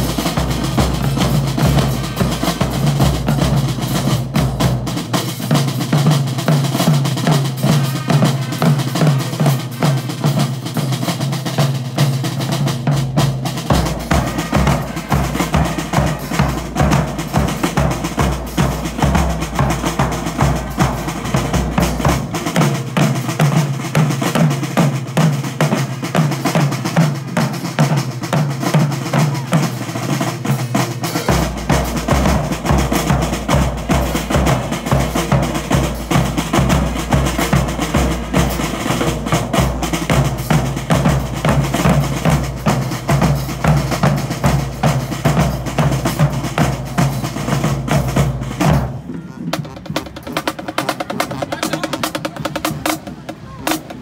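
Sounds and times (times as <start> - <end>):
bass drums: 0.0 - 54.0
cymbals: 0.0 - 54.0
snare drums: 0.0 - 54.0.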